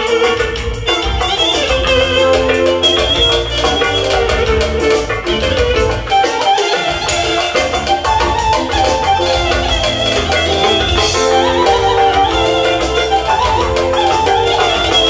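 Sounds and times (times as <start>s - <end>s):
drum kit beat: 0.0s - 15.0s
electric violin melody: 0.0s - 15.0s
keyboard: 0.0s - 15.0s.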